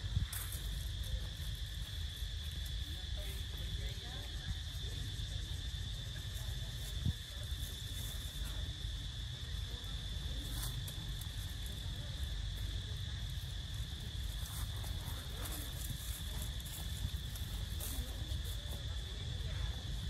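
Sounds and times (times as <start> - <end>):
insects calling drone: 0.0 - 20.0.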